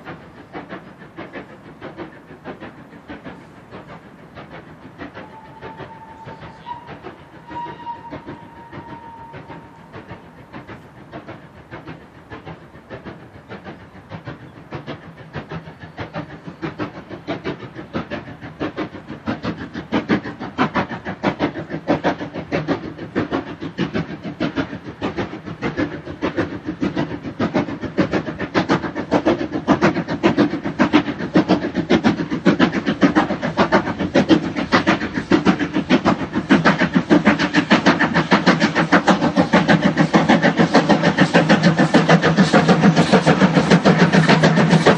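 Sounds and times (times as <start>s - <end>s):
steam locomotive exhaust beats: 0.0s - 44.9s.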